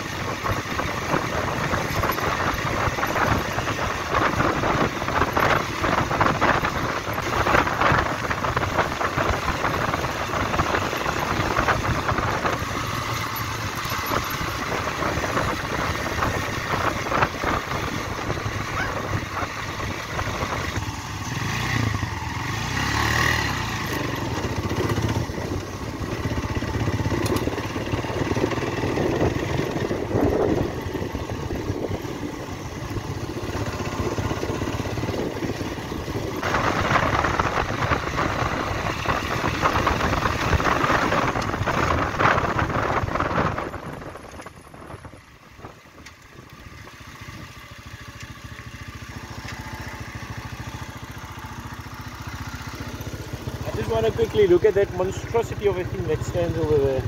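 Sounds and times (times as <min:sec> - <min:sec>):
motorcycle engine running: 0:00.0 - 0:57.0
tyres on gravel road: 0:00.0 - 0:57.0.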